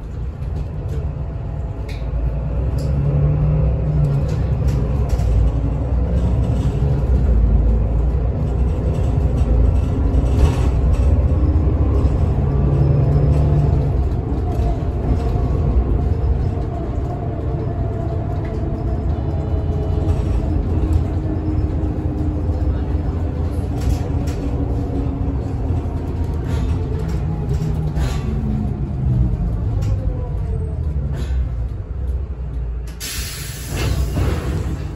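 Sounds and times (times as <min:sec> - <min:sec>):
bus diesel engine: 0:00.0 - 0:34.9
road rumble: 0:00.0 - 0:34.9.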